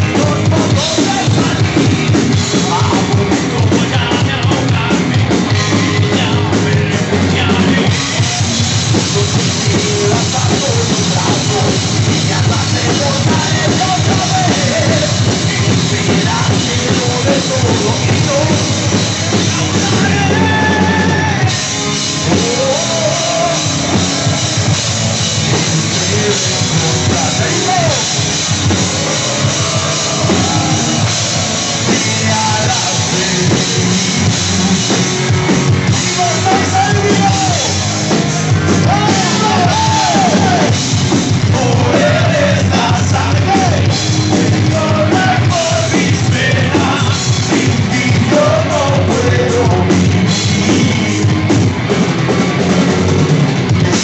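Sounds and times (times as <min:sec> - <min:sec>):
person singing: 0:00.0 - 0:51.4
distorted electric guitars: 0:00.0 - 0:54.0
drum kit: 0:00.0 - 0:54.0.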